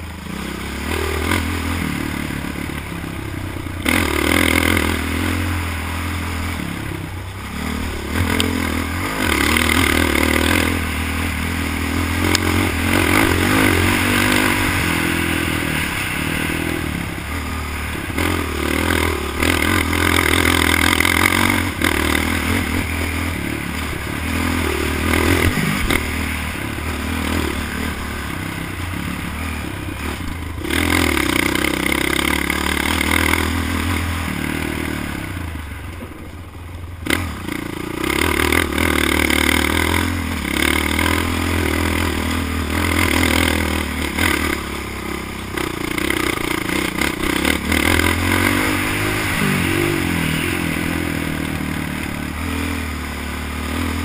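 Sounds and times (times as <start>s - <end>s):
quad bike engine revving: 0.0s - 54.0s
wind: 0.0s - 54.0s.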